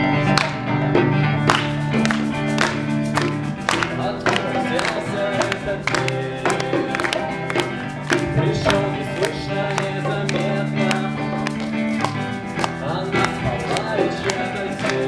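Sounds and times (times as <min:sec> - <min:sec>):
instrumental music with steady beat: 0:00.0 - 0:15.0.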